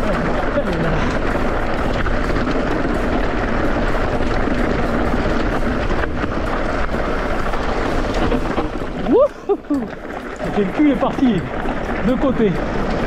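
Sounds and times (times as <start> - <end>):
bike rattling: 0.0 - 13.0
tyres rolling over gravel: 0.0 - 13.0.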